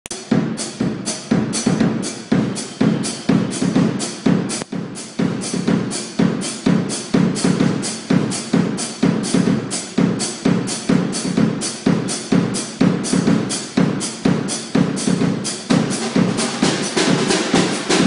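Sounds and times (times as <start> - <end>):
cymbal strikes: 0.1 - 18.0
drum kit solo: 0.1 - 18.0.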